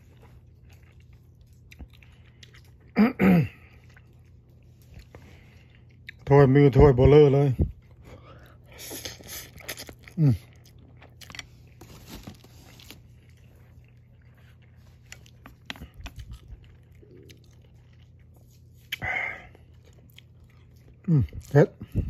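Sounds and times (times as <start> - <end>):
person chewing noodles: 0.0 - 6.6, 7.7 - 22.0.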